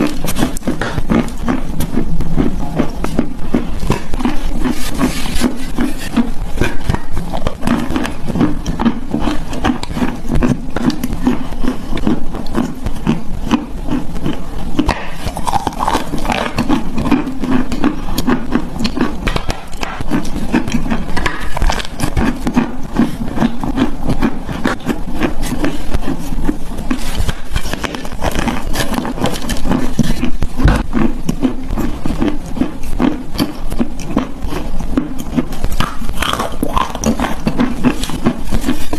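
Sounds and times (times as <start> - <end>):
chalk being chewed crunching: 0.0 - 38.9.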